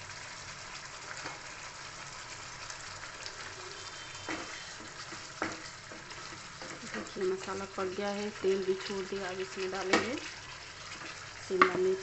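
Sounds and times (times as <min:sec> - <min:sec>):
gravy bubbling and sizzling in oil: 0:00.0 - 0:12.0.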